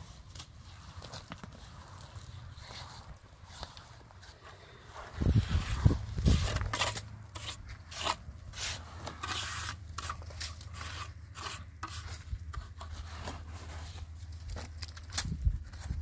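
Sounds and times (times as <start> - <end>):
trowels scraping wet cement: 0.0 - 14.2.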